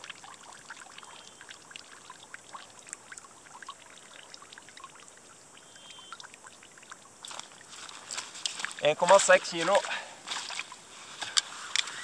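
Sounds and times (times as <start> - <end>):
small water plinks and splashes: 0.0 - 12.0
water trickling and gurgling: 0.0 - 12.0.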